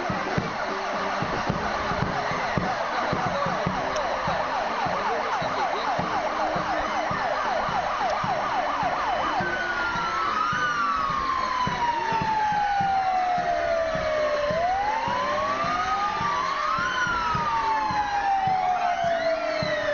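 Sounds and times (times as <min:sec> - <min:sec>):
fire engine siren: 0:00.0 - 0:19.9.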